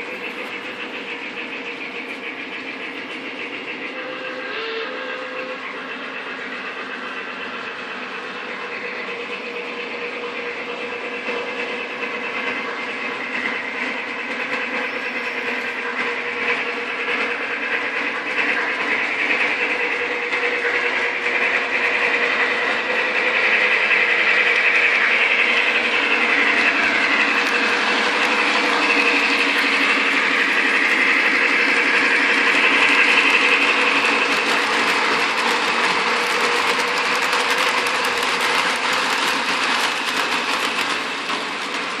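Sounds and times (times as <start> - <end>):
model train wheels whirring: 0.0 - 42.0.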